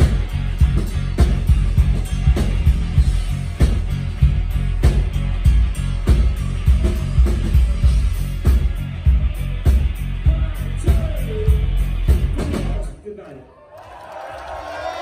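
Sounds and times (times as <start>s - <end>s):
live rock band playing: 0.0s - 12.9s
steady drum beat: 0.0s - 12.9s.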